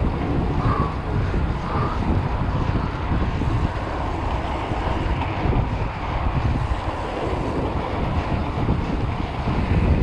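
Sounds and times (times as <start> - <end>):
tyre roar on asphalt: 0.0 - 10.0
wind buffeting microphone: 0.0 - 10.0.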